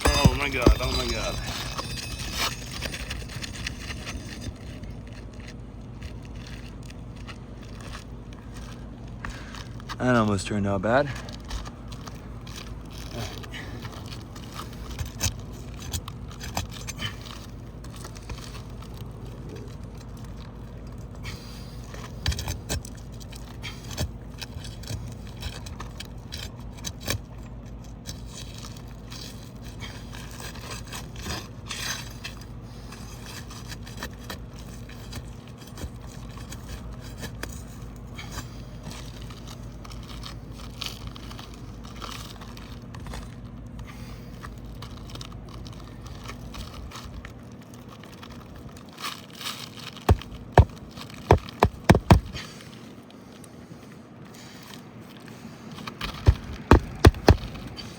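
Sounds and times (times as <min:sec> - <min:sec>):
roof shingles scraping and crackling: 0:00.0 - 0:57.9.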